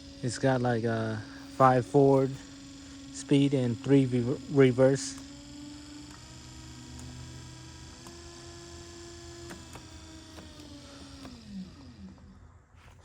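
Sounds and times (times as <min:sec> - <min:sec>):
speed change click: 0:00.0 - 0:12.3
electric motor whining: 0:00.0 - 0:13.0.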